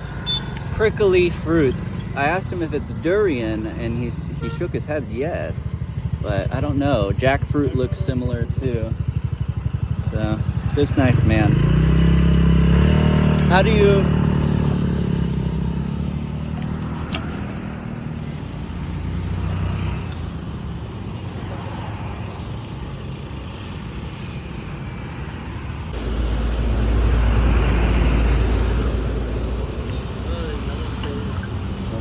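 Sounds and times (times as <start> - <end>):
road traffic rumble: 0.0 - 32.0
vehicle passing close: 0.0 - 32.0.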